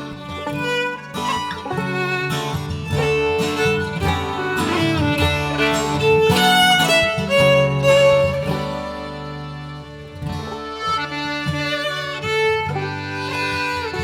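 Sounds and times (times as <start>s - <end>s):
acoustic guitar accompaniment: 0.0s - 14.0s
fiddle melody: 0.0s - 14.0s.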